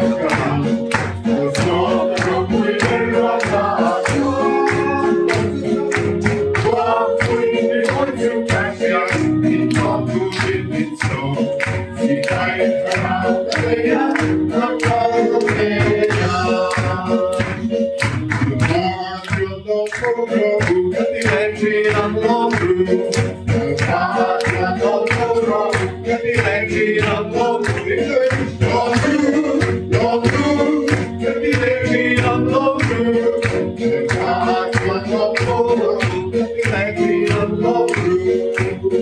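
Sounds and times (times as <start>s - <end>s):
people singing together: 0.0s - 18.0s, 18.6s - 39.0s
music with steady beat: 0.0s - 39.0s
people clapping: 0.0s - 39.0s.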